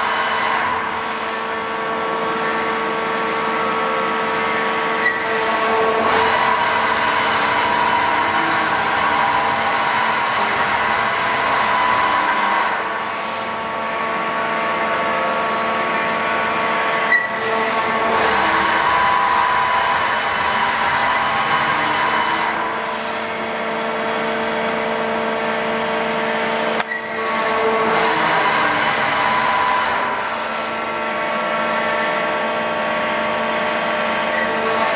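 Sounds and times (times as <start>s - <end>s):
milling machine whirring and whining: 0.0s - 34.9s.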